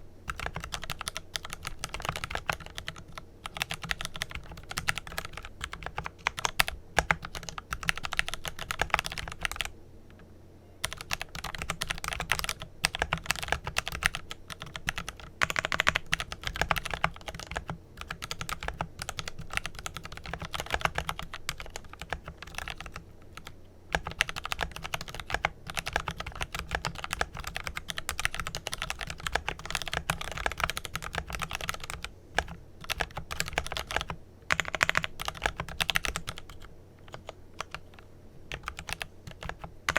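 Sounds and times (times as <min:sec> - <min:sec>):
fast mechanical keyboard typing: 0:00.2 - 0:09.7, 0:10.8 - 0:39.9.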